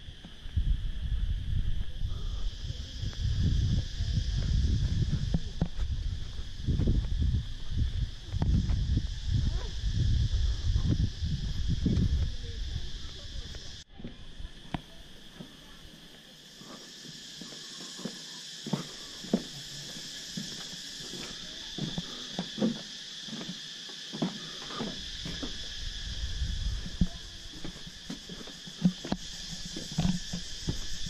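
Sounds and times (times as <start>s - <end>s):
insects buzzing: 0.0s - 31.0s.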